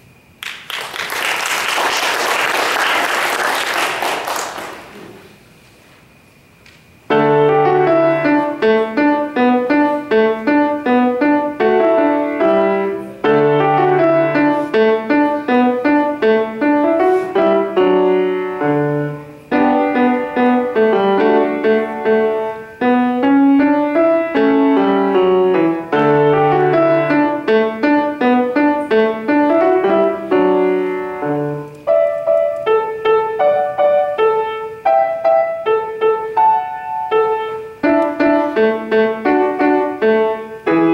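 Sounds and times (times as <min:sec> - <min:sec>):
grand piano piece: 0:00.0 - 0:40.9.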